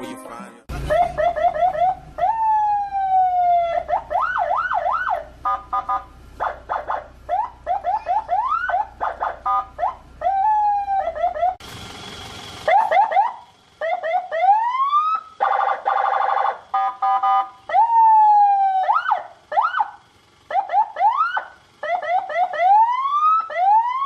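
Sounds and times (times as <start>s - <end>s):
electronic siren cycling tones: 0.7s - 11.6s, 12.7s - 24.0s.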